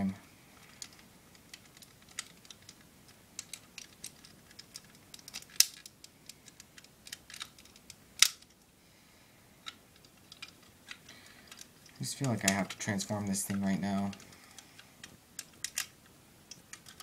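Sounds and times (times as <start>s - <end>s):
sharp plastic snaps: 0.7s - 8.6s, 9.7s - 17.0s
plastic toy parts clicking: 0.8s - 8.6s, 9.6s - 17.0s.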